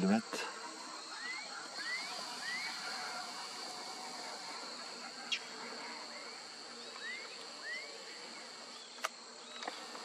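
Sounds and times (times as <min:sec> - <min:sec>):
insects droning: 0:00.0 - 0:10.0
rising bird calls: 0:00.5 - 0:10.0.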